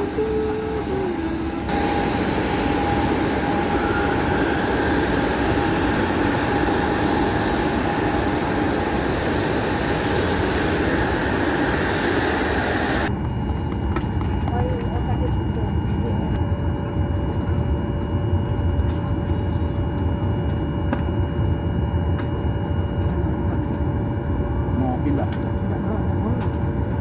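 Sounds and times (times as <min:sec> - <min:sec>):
airliner cabin rumble: 0:00.0 - 0:27.0
faint steady whine: 0:00.0 - 0:27.0.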